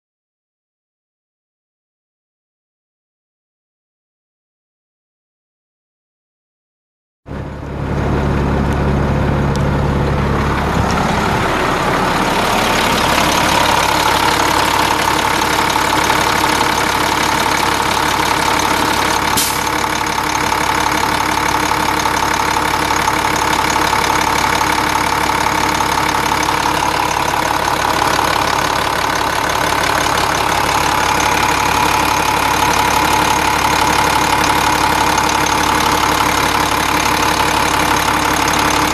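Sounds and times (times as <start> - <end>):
diesel engine idling: 7.3 - 38.9.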